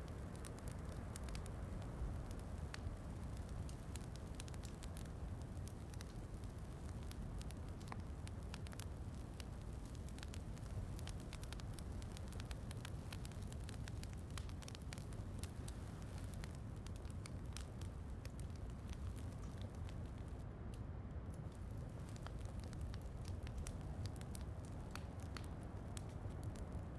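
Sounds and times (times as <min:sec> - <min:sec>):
wood fire crackling in fireplace: 0:00.0 - 0:26.9.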